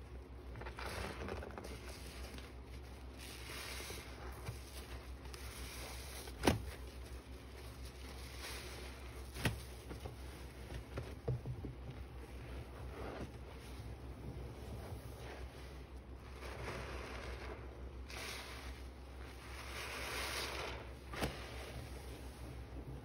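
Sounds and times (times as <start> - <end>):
sponges squishing in suds: 0.0 - 23.0.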